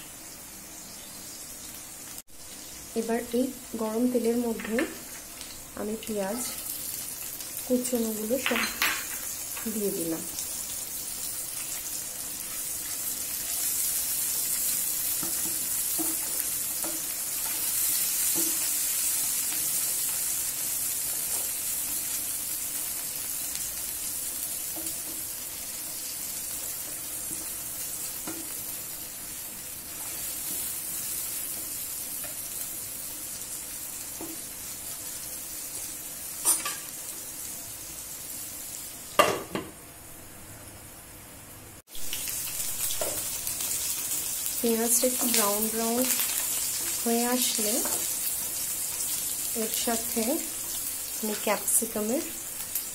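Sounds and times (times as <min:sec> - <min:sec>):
onions sizzling in oil: 0:00.0 - 0:52.9.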